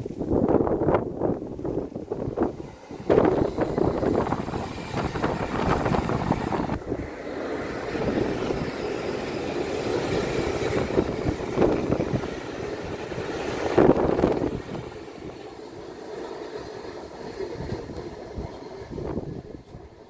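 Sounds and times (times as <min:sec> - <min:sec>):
train rumbling over rails: 0:00.0 - 0:20.0.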